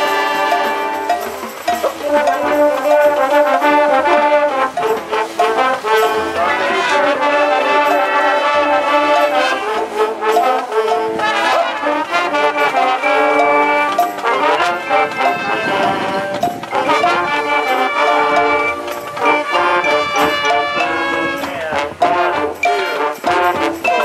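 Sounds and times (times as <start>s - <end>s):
brass band playing chords: 0.0s - 24.0s.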